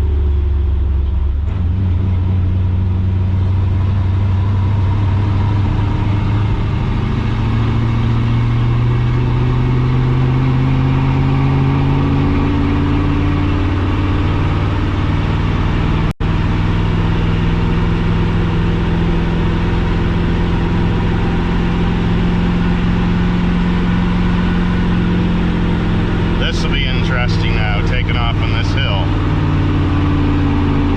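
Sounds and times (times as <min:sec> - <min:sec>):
truck engine under load: 0:00.0 - 0:30.9.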